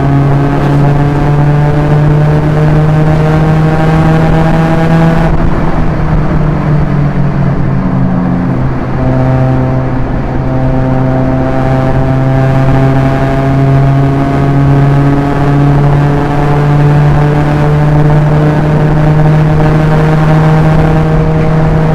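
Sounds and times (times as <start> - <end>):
car engine droning: 0.0 - 21.9.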